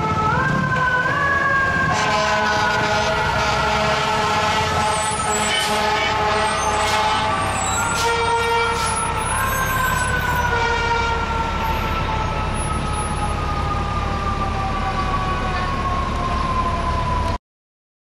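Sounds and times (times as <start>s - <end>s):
fire engine siren wailing: 0.0s - 17.4s
truck engine and traffic rumble: 0.0s - 17.4s.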